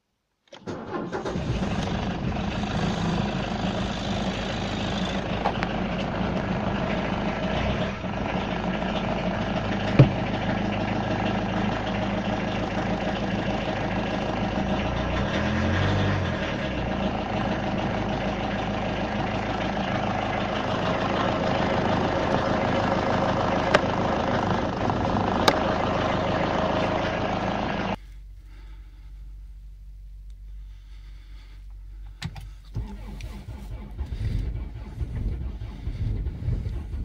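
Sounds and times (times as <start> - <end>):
diesel engine idling: 0.7 - 37.0.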